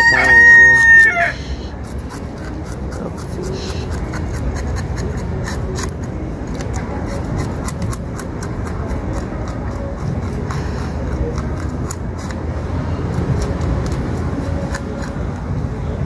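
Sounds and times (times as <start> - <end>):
knife scraping fish scales: 1.4 - 12.4, 13.2 - 15.4.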